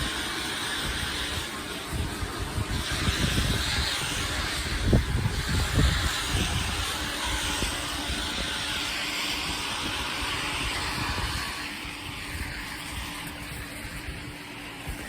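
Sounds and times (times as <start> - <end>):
low machine hum: 0.0 - 15.0
water jet hissing on concrete: 0.0 - 15.0.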